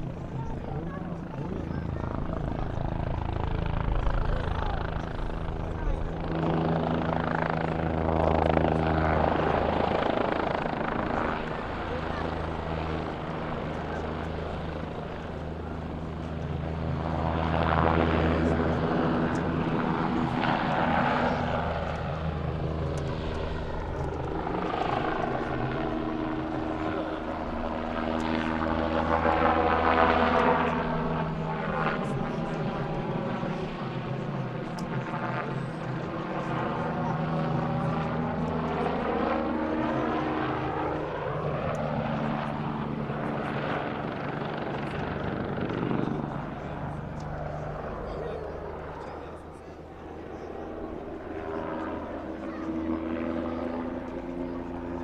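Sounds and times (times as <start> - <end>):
aircraft engine drone: 0.0 - 55.0.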